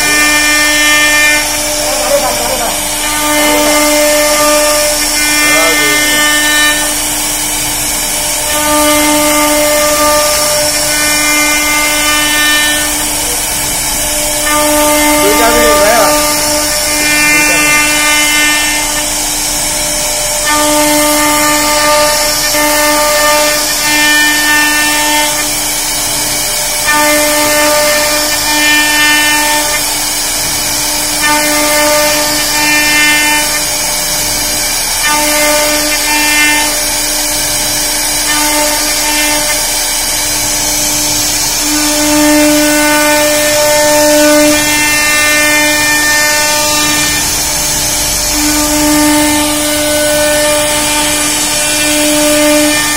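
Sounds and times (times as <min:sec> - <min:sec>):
router spindle carving wood: 0:00.0 - 0:52.9.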